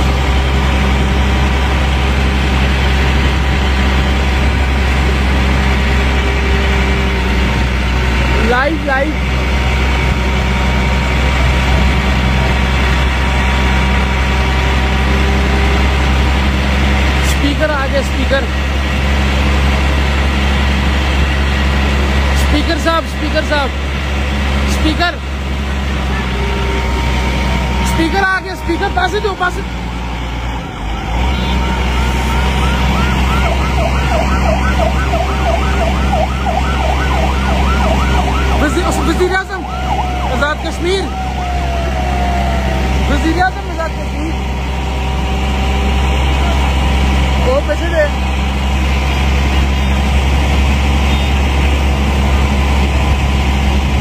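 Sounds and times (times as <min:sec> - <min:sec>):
police siren yelping: 0:00.0 - 0:23.7, 0:24.8 - 0:48.0
low rumble of road traffic: 0:00.0 - 0:54.0
vehicle engine droning: 0:00.0 - 0:54.0.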